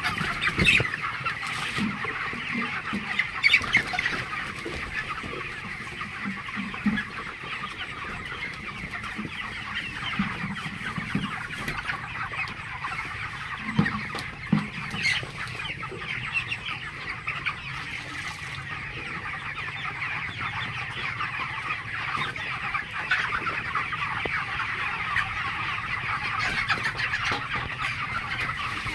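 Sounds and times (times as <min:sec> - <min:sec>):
chickens calling: 0:00.0 - 0:28.9.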